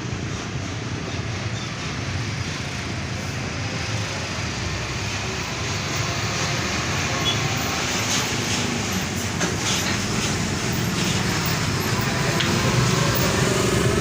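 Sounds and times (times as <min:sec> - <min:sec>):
truck engine rumble: 0:00.0 - 0:14.0.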